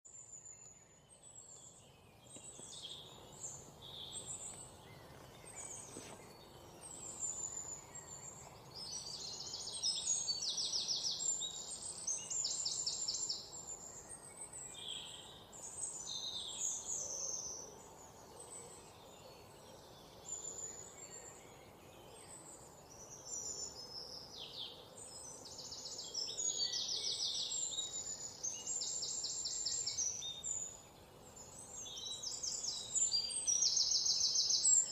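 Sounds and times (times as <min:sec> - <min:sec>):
faint background hiss: 0:00.1 - 0:34.9.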